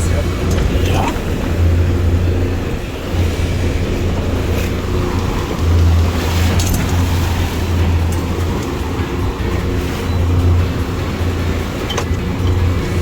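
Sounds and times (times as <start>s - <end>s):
boat outboard motors droning: 0.0s - 13.0s
water and wind hiss: 0.0s - 13.0s.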